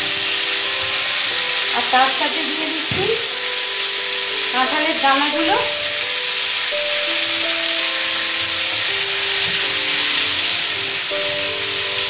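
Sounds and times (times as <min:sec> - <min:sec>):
background music of held notes: 0:00.0 - 0:12.0
food sizzling in oil: 0:00.0 - 0:12.0.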